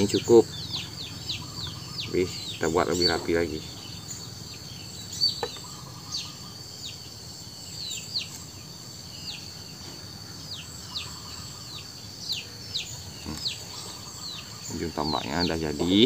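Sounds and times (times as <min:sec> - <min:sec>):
chicks peeping: 0:00.0 - 0:16.0
faint high insect drone: 0:00.0 - 0:16.0.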